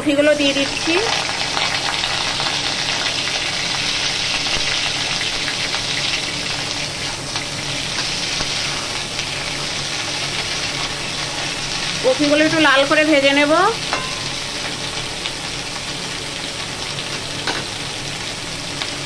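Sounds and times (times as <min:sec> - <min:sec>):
cauliflower sizzling in hot oil: 0:00.0 - 0:19.0.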